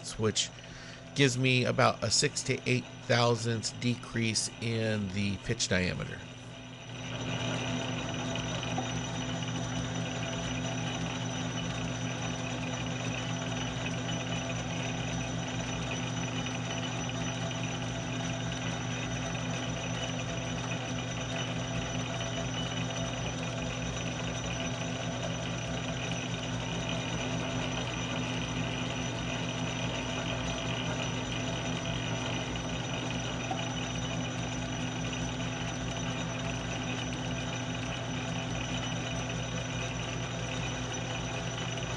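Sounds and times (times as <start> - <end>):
metal lathe humming: 0.0 - 41.9.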